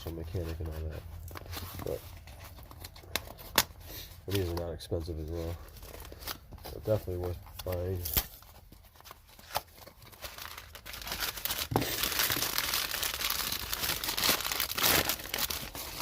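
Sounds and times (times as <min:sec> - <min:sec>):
packaging crinkling and tearing: 0:00.0 - 0:16.0
packaging rustling: 0:00.0 - 0:16.0.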